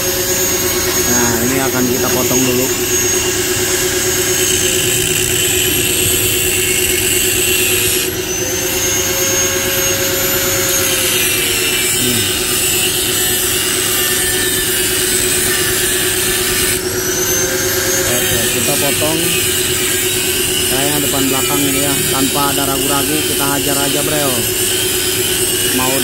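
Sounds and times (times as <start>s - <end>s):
angle grinder cutting steel: 0.0s - 26.0s.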